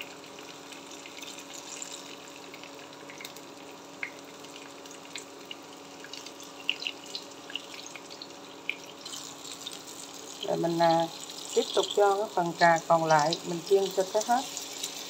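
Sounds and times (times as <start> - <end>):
faint steady hum: 0.0 - 15.0
frying in hot oil: 0.0 - 15.0.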